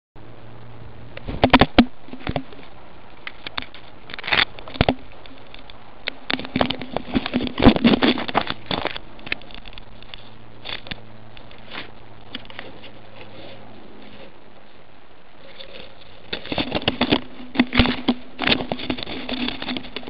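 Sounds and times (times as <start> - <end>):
steady low hum: 0.2 - 20.0
leaves and twigs scraping: 1.2 - 20.0.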